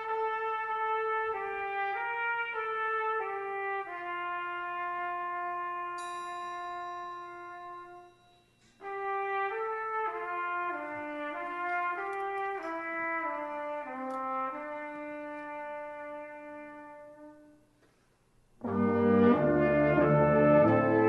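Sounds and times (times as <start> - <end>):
brass instrument melody: 0.0 - 17.7, 18.6 - 21.0.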